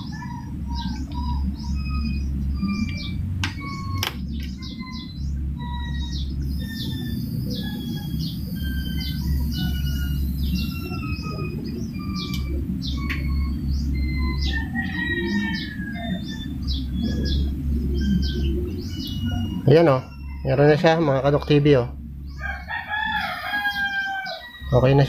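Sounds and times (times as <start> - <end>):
small birds chirping: 0.0 - 25.0
steady low hum: 0.0 - 25.0
whistled bird notes: 0.0 - 25.0.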